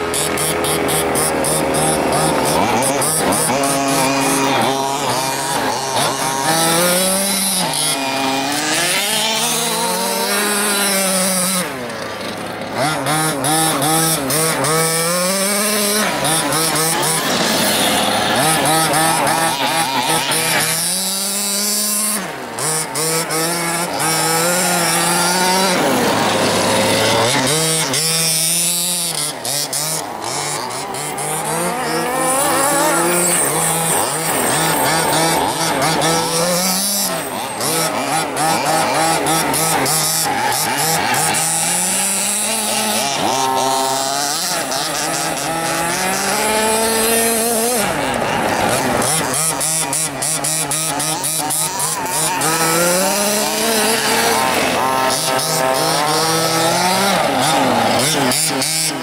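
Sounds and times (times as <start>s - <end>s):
model car engines revving: 0.0s - 59.0s.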